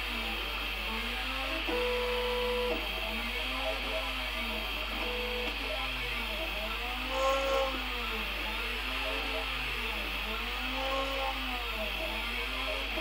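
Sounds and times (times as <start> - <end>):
stepper motors whining: 1.1 - 13.0.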